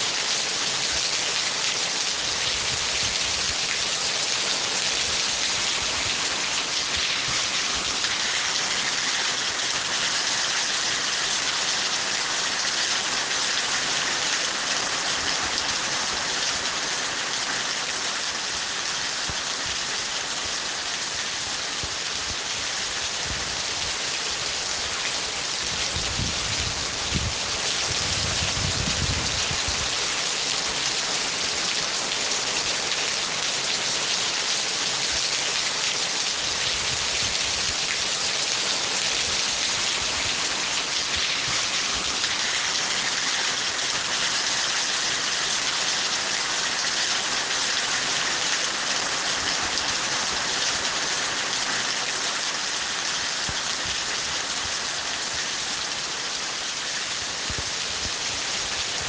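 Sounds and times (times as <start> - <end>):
dense rain hissing: 0.0 - 59.0.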